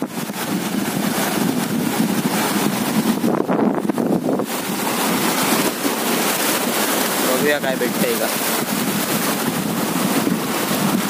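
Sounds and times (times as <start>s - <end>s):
sea waves: 0.0s - 11.0s
wind noise on microphone: 0.0s - 11.0s.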